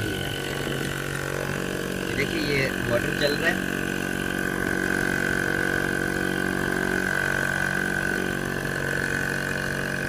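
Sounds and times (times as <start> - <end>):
portable air compressor running: 0.0 - 10.0.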